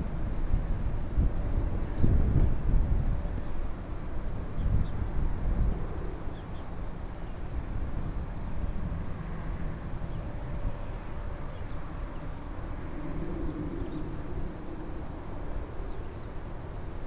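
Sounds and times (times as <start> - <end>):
distant airliner engines humming: 0.0 - 17.0
wind buffeting microphone: 0.0 - 17.0.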